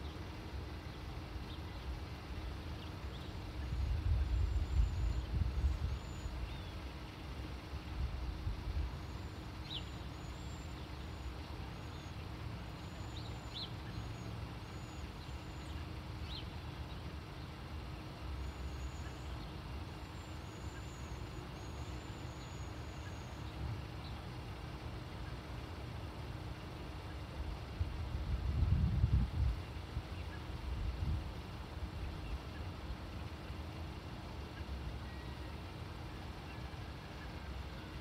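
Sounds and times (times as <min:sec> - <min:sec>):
lower bird chirps: 0:00.0 - 0:24.4, 0:29.6 - 0:30.7, 0:31.9 - 0:38.0
low background rumble: 0:00.0 - 0:38.0.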